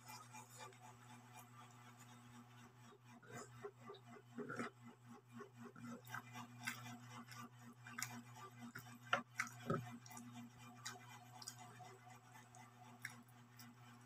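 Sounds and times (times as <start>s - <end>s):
chewing and eating sounds: 0.0s - 14.0s
steady low hum: 0.0s - 14.0s.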